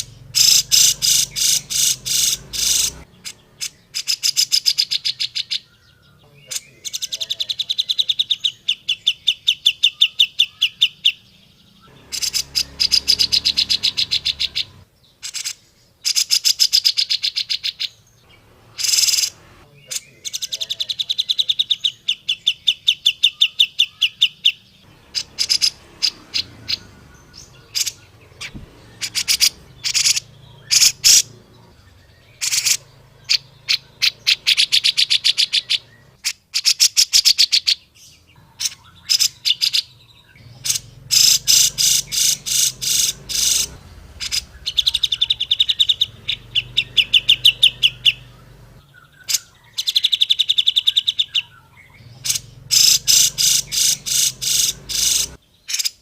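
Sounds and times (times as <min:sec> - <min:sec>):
bulbul singing chattering trills: 0:00.0 - 0:56.0.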